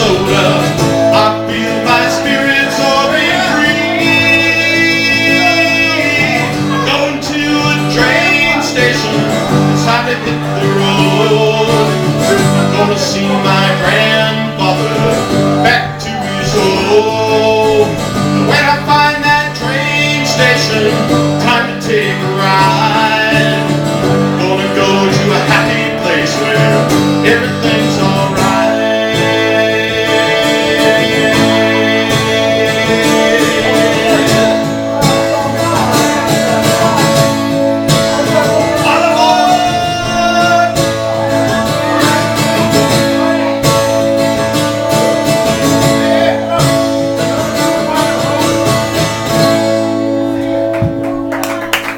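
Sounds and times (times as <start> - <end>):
country band instrumental: 0.0 - 51.9.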